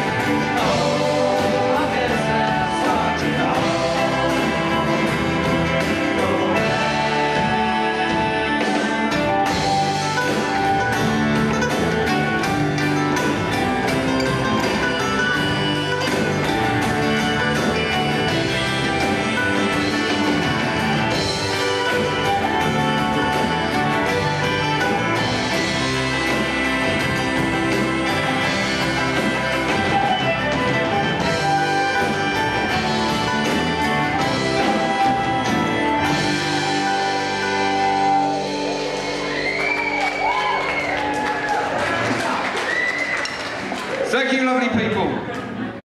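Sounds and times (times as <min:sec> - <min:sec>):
drum beat: 0:00.0 - 0:41.5
folk band playing: 0:00.0 - 0:45.8.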